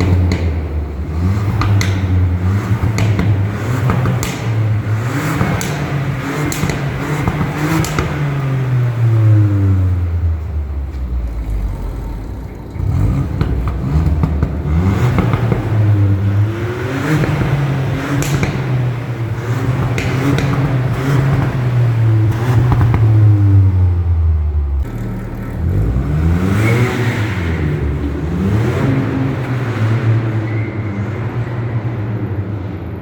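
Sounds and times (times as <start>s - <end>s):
exhaust cracks: 0.0s - 31.8s
car engine and exhaust revving: 0.0s - 33.0s.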